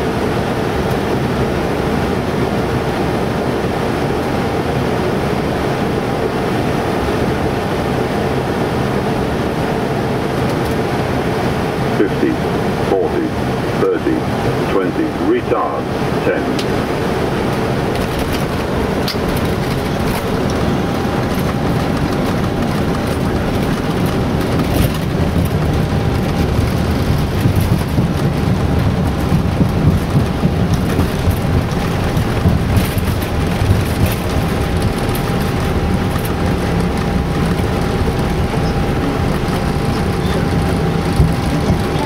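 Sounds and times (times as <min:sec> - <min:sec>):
aircraft engine rumble: 0:00.0 - 0:42.0
rushing airflow: 0:00.0 - 0:42.0.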